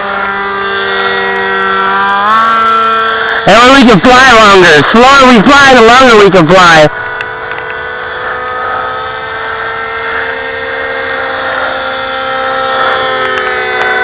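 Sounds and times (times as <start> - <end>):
model jet motor whine: 0.0 - 14.0.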